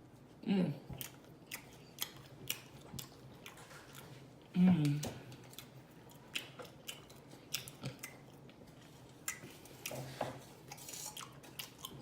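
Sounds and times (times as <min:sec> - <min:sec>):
person chewing with mouth smacking: 0:00.8 - 0:12.0.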